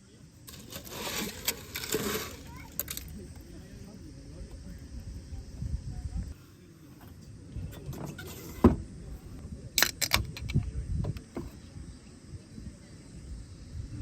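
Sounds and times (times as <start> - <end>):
faint insect drone: 0.0 - 14.0.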